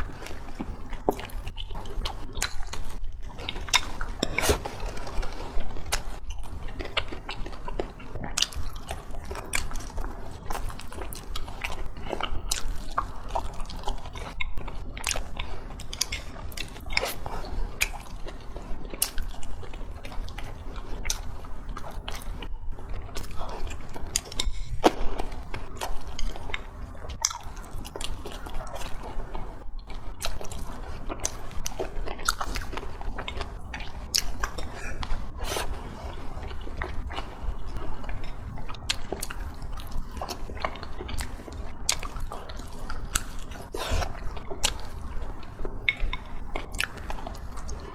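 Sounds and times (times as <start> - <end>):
person chewing and biting: 0.0 - 47.9
steady low hum: 0.0 - 47.9.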